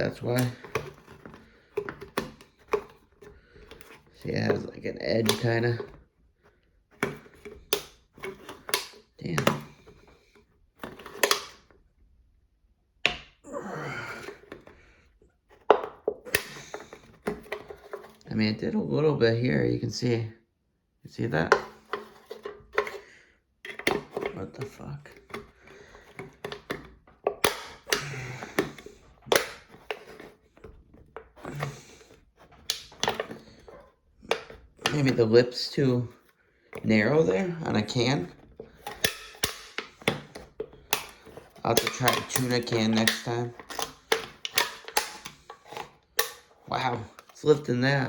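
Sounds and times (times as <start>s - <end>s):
can opener scraping can rim: 0.0s - 6.0s, 7.0s - 11.7s, 15.8s - 18.4s, 21.4s - 48.0s.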